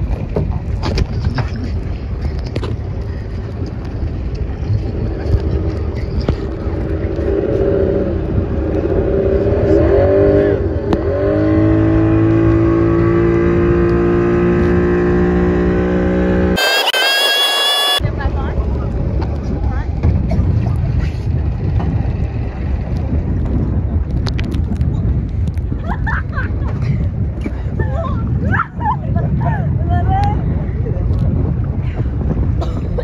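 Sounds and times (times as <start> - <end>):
rushing wind: 0.0 - 33.0.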